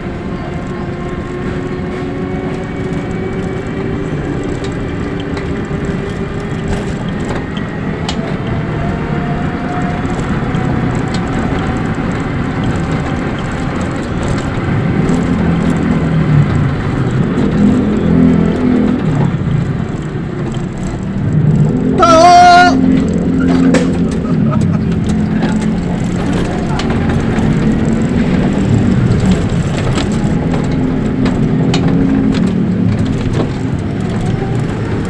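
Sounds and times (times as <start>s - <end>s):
deep engine hum: 0.0s - 35.0s
vehicle road rumble and hiss: 0.0s - 35.0s.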